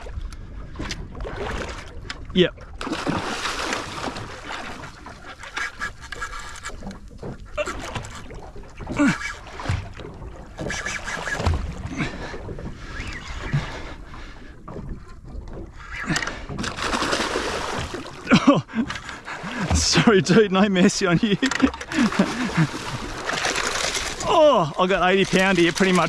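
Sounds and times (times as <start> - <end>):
water noise: 0.0 - 26.0
wind: 0.0 - 26.0.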